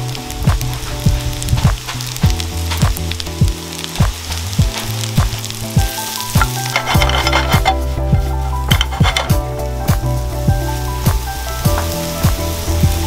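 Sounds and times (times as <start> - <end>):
background music with beat: 0.0 - 13.0
mushrooms sizzling in oil: 0.0 - 13.0.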